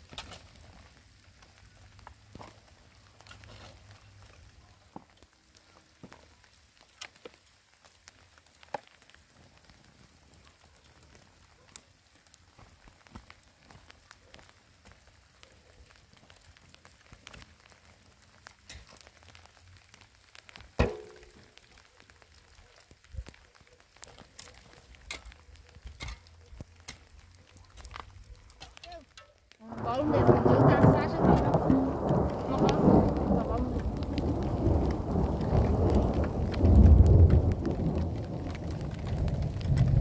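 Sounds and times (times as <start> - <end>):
rain patter: 0.0 - 40.0.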